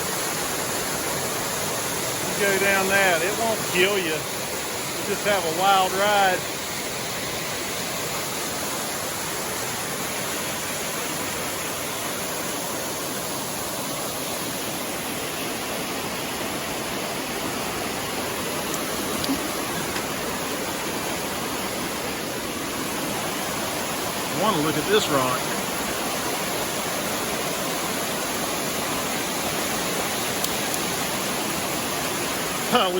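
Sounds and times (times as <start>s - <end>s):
waterfall rushing over rock: 0.0s - 32.9s.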